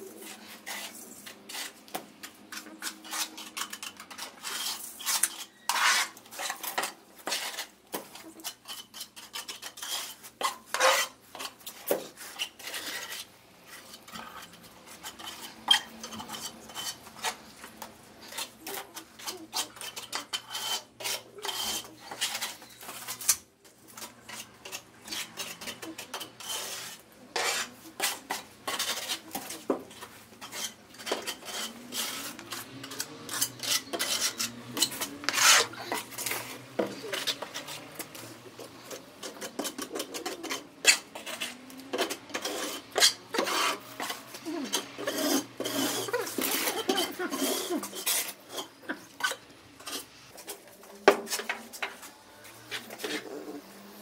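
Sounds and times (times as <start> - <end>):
trowel scraping in plastic bucket: 2.5 - 17.4, 18.2 - 52.0.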